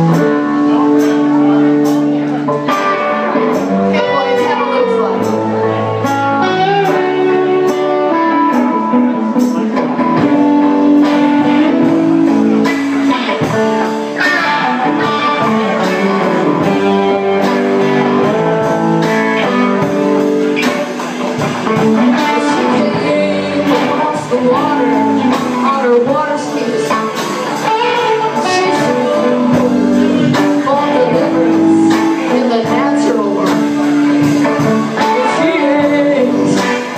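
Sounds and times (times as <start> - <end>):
guitar: 0.0 - 36.9
live band playing: 0.0 - 36.9.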